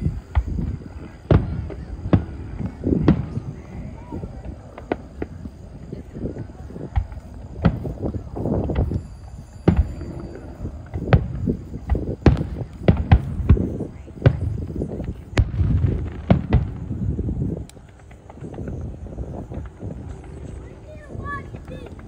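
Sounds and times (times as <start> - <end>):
fireworks bangs and booms: 0.0 - 22.0.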